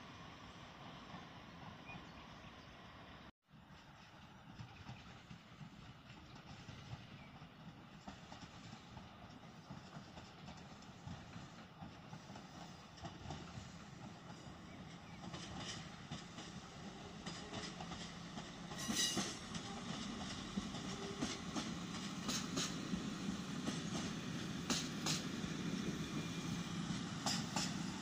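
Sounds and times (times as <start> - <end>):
train rolling with low drone: 0.0 - 28.0
wheels clicking over rail joints: 3.9 - 25.3, 26.8 - 28.0.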